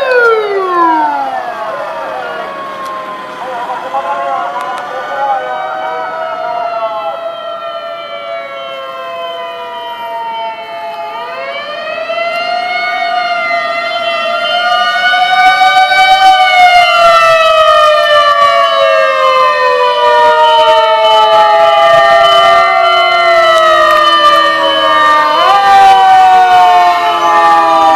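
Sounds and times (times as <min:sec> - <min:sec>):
fire engine sirens wailing: 0:00.0 - 0:27.9.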